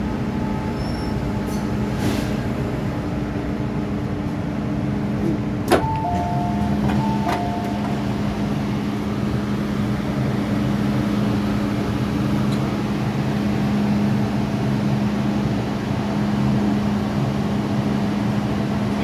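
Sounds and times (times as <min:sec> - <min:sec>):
train equipment humming: 0:00.0 - 0:19.0.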